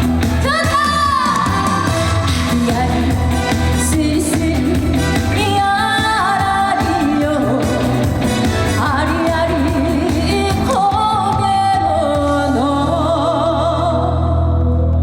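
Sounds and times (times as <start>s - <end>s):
backing music with bass line: 0.0s - 15.0s
woman singing with vibrato: 0.3s - 14.7s.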